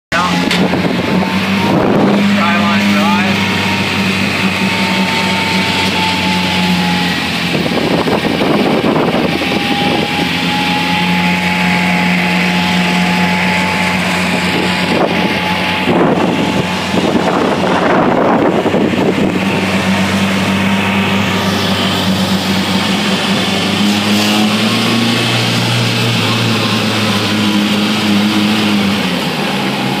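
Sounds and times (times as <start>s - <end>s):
dune buggy engine running: 0.1s - 30.0s
louder rushes of noise: 0.1s - 30.0s
wind and road noise: 0.1s - 30.0s.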